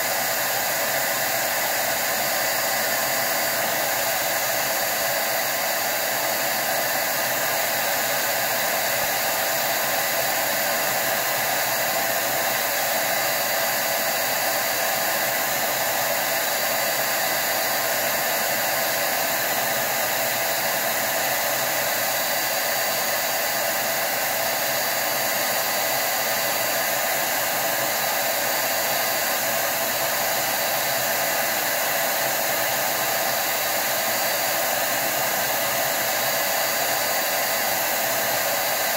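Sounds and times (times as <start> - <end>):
electric duster blowing air: 0.0 - 38.9.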